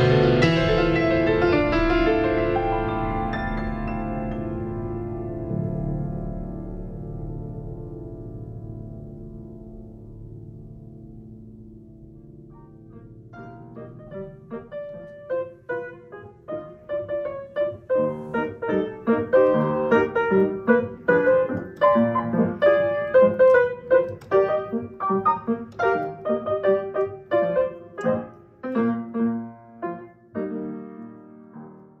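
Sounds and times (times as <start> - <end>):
solo piano playing arpeggios: 0.0 - 32.0.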